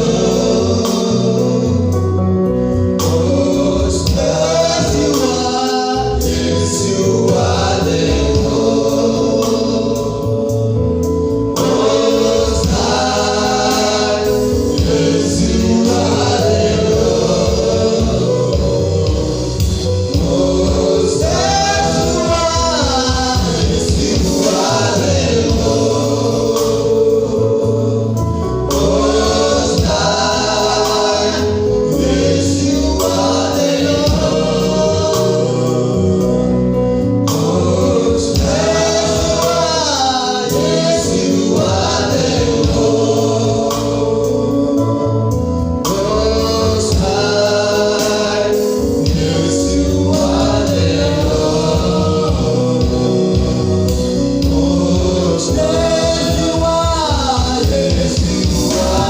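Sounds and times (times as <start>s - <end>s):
choir singing: 0.0s - 10.4s, 11.6s - 59.0s
bass and beat: 0.0s - 59.0s.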